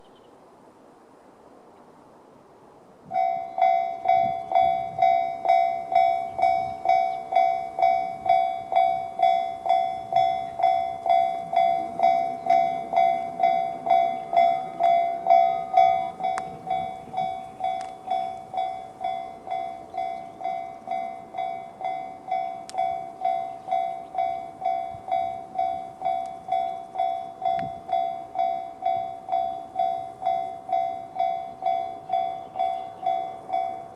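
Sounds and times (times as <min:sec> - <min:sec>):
level crossing warning bell: 0:03.1 - 0:33.9.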